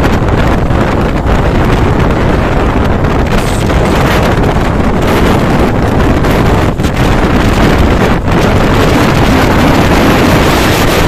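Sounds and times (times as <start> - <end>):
train rumbling on track: 0.0 - 11.0
wind buffeting microphone: 0.0 - 11.0.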